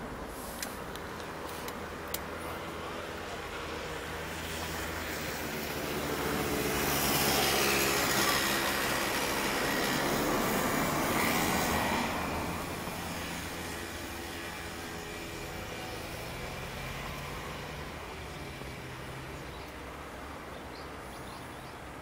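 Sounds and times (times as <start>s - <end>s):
passing engine rumble: 0.1s - 22.0s.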